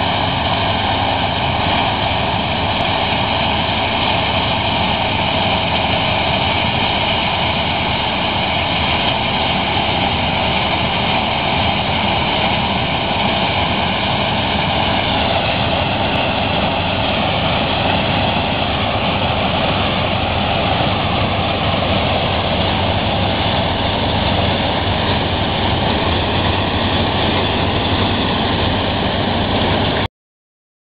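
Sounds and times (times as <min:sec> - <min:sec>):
combine harvester running: 0:00.0 - 0:30.1.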